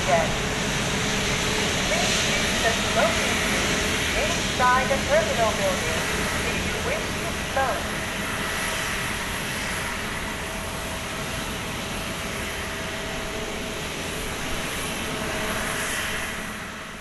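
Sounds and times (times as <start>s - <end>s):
high jet engine whine: 0.0s - 17.0s
jet engines rushing: 0.0s - 17.0s.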